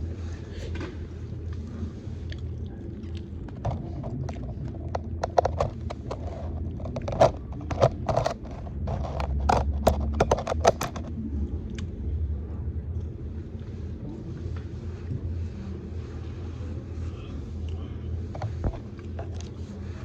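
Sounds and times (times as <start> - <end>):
crunching and chewing food: 0.0 - 15.1, 17.6 - 20.0.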